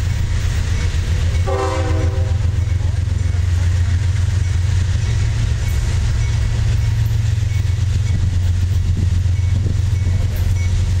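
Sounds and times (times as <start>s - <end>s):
diesel locomotive engine droning: 0.0s - 11.0s.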